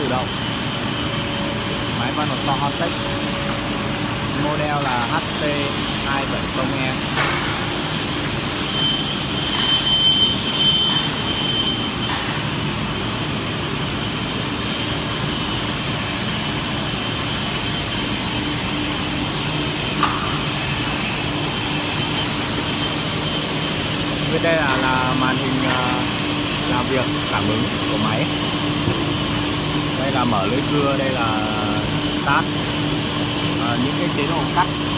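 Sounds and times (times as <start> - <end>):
high machine whine: 0.0 - 34.9
machinery mechanical hum: 0.0 - 34.9.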